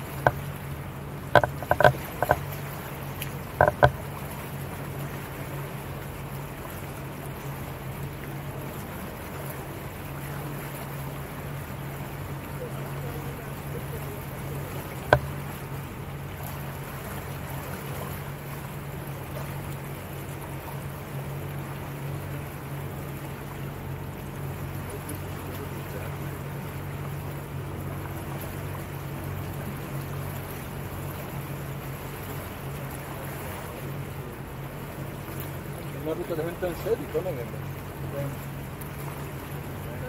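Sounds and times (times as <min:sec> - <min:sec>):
motorboat engine running: 0:00.0 - 0:40.0
water along hull: 0:00.0 - 0:40.0.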